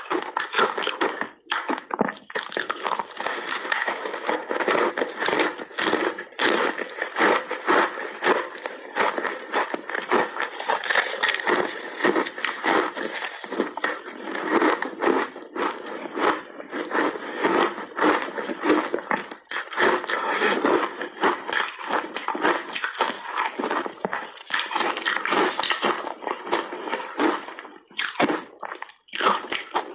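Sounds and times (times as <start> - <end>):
chewing crunchy ice: 0.0 - 29.9.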